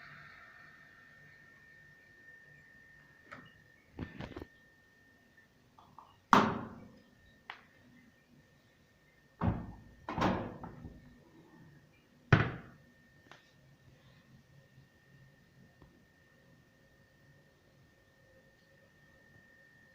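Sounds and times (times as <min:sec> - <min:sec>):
faint high whine: 0:00.0 - 0:19.9.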